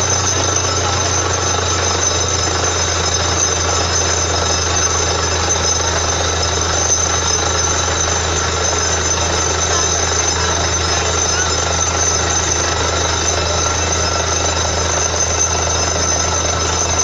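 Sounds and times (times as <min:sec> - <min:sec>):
drilling rig mechanical din: 0:00.0 - 0:17.0
low engine hum: 0:00.0 - 0:17.0.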